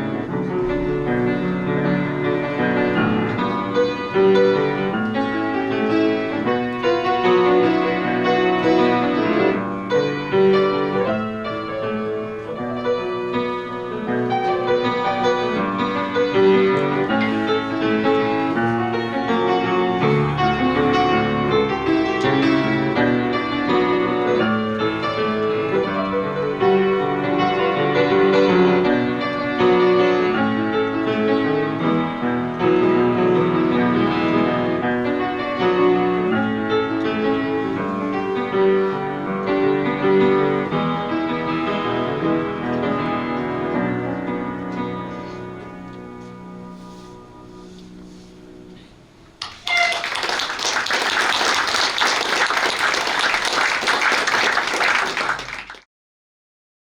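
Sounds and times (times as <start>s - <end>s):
solo piano piece: 0.0s - 55.6s.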